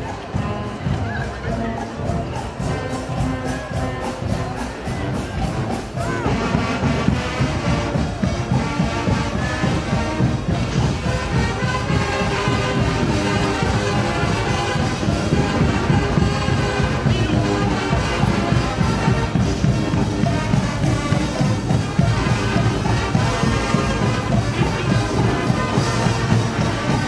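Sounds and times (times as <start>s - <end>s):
street band brass and drums: 0.0s - 27.0s.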